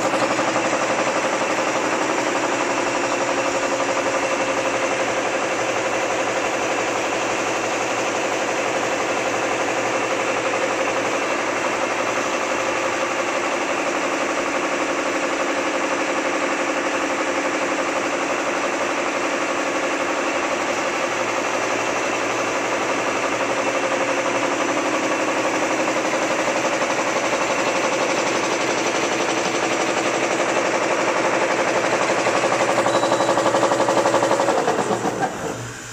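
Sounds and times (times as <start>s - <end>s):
machine hum and clatter: 0.0s - 35.9s.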